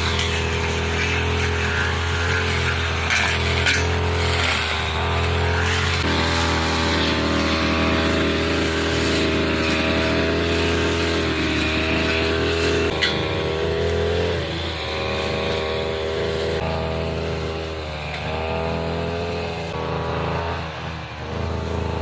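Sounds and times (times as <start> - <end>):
brush cutter running: 0.0 - 22.0.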